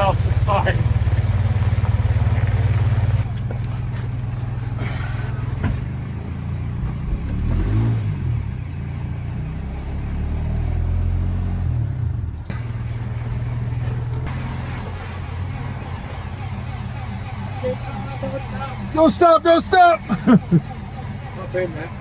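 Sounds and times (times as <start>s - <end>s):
quad engine revving: 0.0s - 22.0s.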